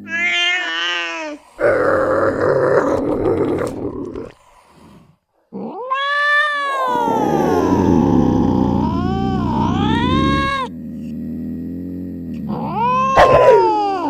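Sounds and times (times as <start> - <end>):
wild cat yowl: 0.0 - 4.4, 5.5 - 11.3, 12.3 - 14.0
wild cat growl: 1.6 - 5.8, 6.9 - 14.0.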